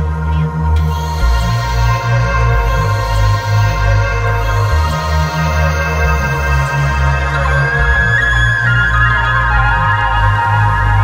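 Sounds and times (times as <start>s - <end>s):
ambient music: 0.0s - 11.0s.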